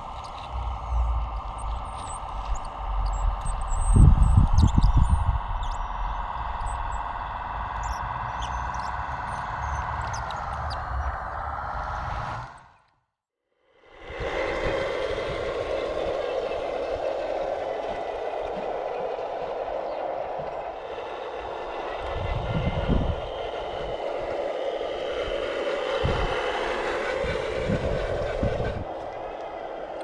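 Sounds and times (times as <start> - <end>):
toy truck motor whine: 0.0 - 12.8, 14.0 - 30.0.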